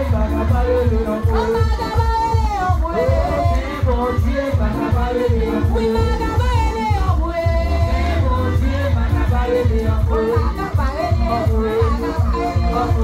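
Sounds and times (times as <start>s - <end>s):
electronic keyboard with heavy bass beat: 0.0s - 13.0s
person singing: 0.0s - 13.0s.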